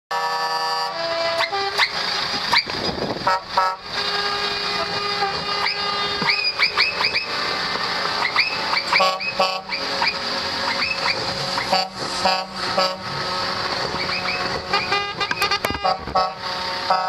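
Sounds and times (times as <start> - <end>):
truck air horns tooting: 0.1 - 17.0
truck engines running: 0.1 - 17.0.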